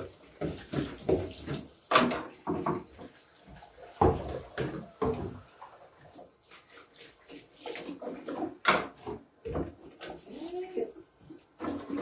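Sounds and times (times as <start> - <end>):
tap water running and splashing: 0.0 - 12.0.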